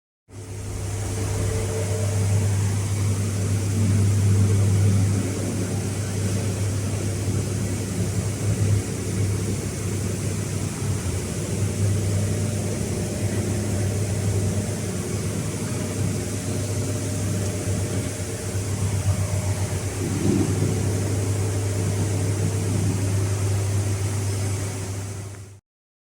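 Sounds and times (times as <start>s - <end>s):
low mechanical drone: 0.3s - 25.6s.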